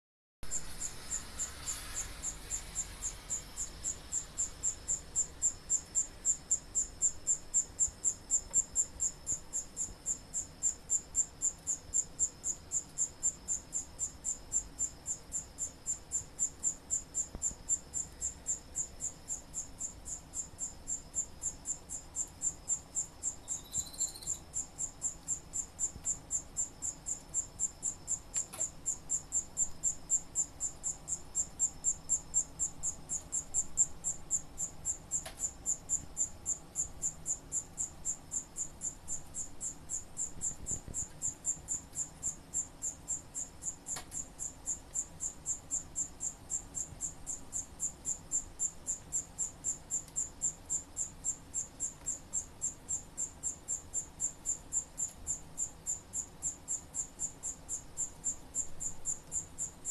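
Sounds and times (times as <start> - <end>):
cricket chirping: 0.4 - 59.9.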